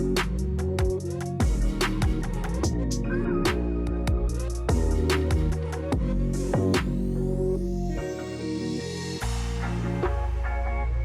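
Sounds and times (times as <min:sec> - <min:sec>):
electronic music with beat: 0:00.0 - 0:11.0.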